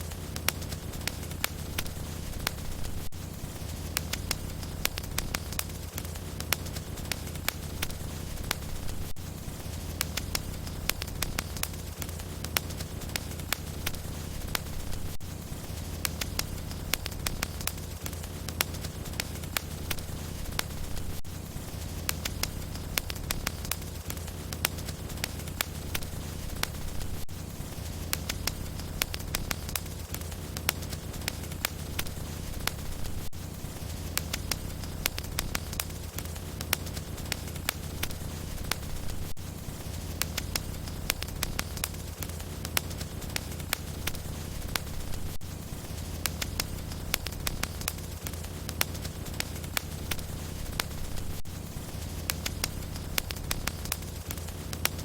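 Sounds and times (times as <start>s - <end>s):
low rumble of fire: 0.0s - 55.0s
wood fire crackling and popping: 0.0s - 55.0s.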